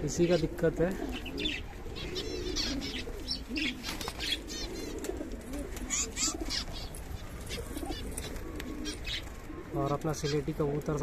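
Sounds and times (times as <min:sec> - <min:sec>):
pigeons cooing: 0:00.0 - 0:11.0
small birds chirping: 0:00.0 - 0:11.0.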